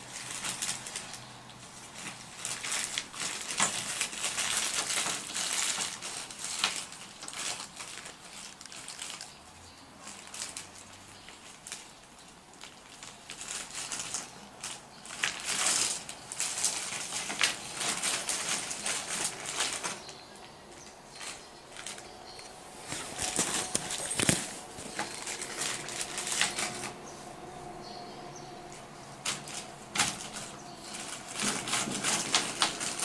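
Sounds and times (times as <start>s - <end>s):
plastic pieces clicking and rustling: 1.9s - 9.3s, 10.0s - 20.2s, 20.8s - 27.1s, 28.7s - 33.0s.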